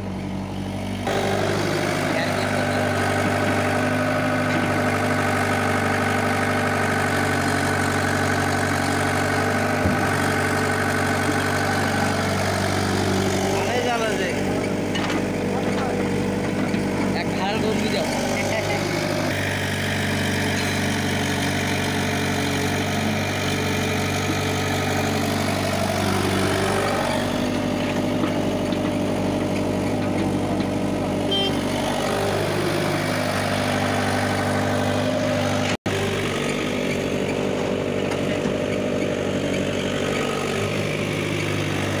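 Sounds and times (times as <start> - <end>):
excavator diesel engine: 0.0 - 42.0
tractor engines running: 0.0 - 42.0.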